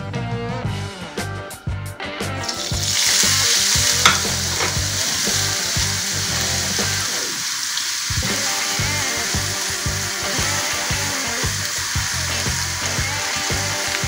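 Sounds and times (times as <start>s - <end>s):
potato sizzling in hot oil: 2.4s - 14.0s.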